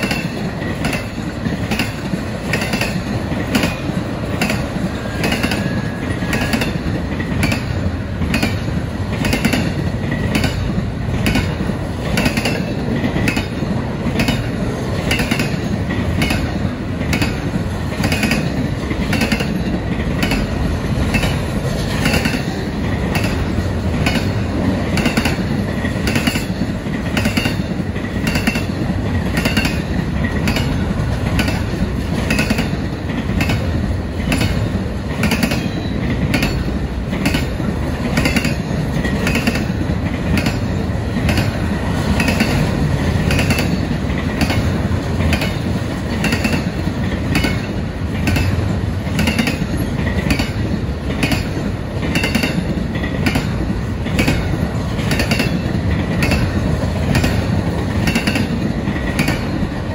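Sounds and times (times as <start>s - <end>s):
freight train wheels rumbling: 0.0s - 59.9s
wheels clickety-clack: 0.0s - 59.9s.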